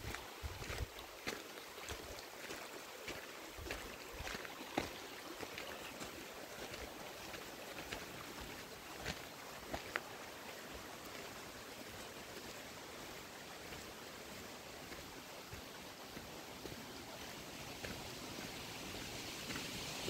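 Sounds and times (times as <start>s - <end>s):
faint outdoor background hiss: 0.0s - 20.0s.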